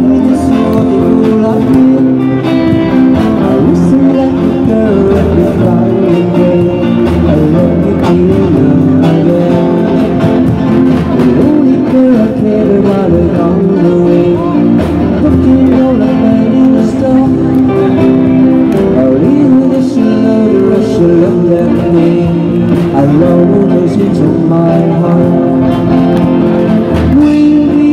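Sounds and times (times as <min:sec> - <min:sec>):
drum kit: 0:00.0 - 0:27.9
electric guitar: 0:00.0 - 0:27.9
man singing into a microphone: 0:00.0 - 0:27.9.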